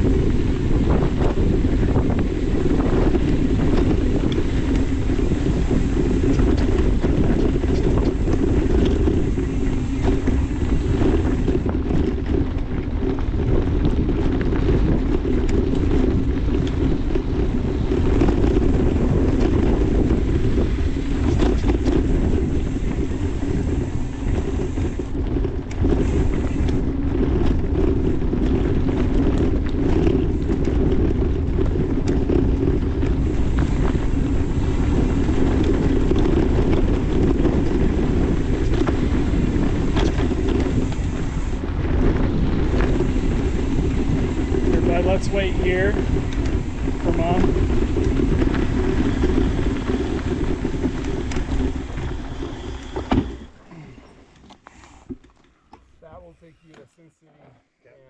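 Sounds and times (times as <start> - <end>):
wind buffeting microphone: 0.0 - 56.5
bike knocking and rattling: 0.0 - 56.9.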